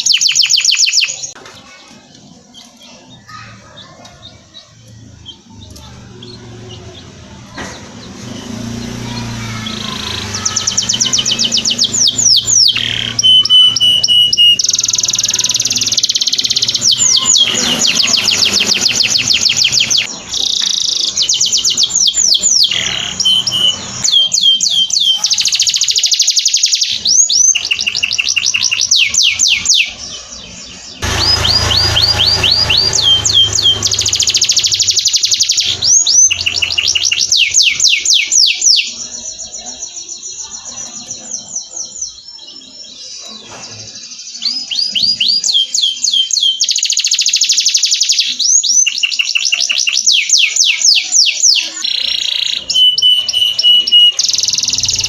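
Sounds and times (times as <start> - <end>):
canary singing rapid trills: 0.0 - 55.0.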